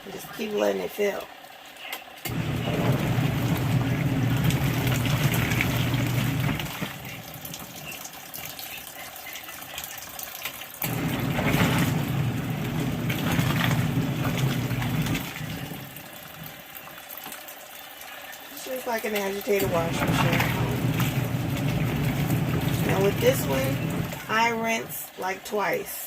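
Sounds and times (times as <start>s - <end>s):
tub filling with water: 0.0s - 25.9s
washing machine motor humming: 2.2s - 25.8s
water churning: 2.3s - 25.8s.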